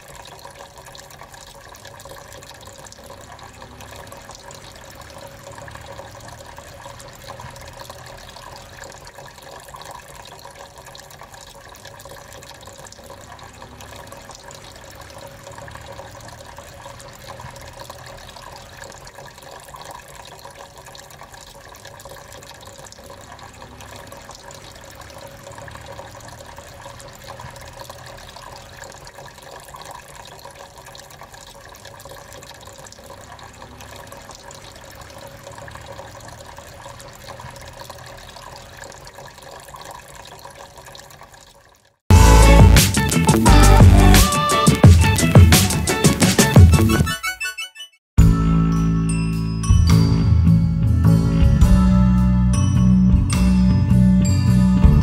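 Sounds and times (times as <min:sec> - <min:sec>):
tabletop fountain trickling: 0:00.0 - 0:46.6.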